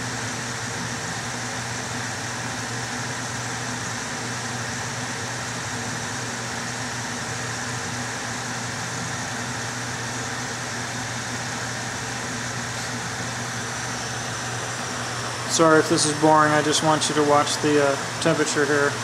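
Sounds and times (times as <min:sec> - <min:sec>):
blower fan humming: 0:00.0 - 0:19.0.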